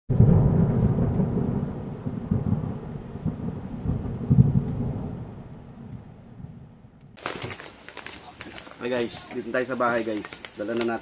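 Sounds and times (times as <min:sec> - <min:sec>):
thunder rumbling: 0:00.1 - 0:09.0
rain hissing: 0:00.2 - 0:11.0.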